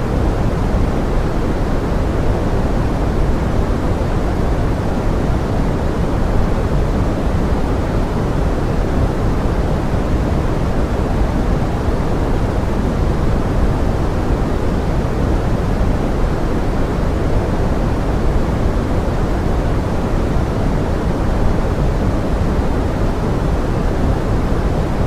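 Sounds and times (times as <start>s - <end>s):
pink noise hiss: 0.0s - 25.0s.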